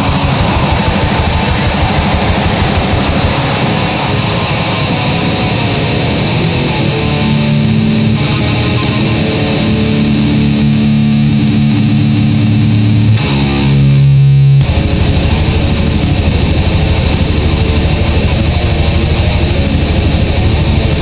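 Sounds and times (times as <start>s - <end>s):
metal music with distorted guitar: 0.0s - 21.0s.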